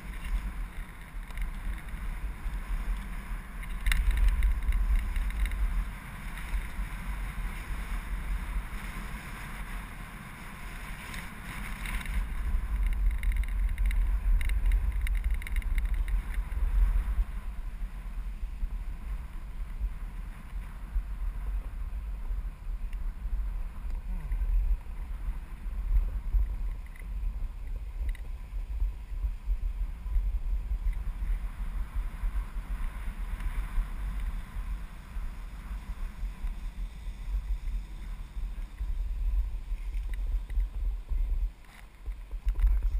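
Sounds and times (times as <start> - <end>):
snowboard sliding over snow: 0.0 - 42.9
wind rumble on microphone: 0.0 - 42.9.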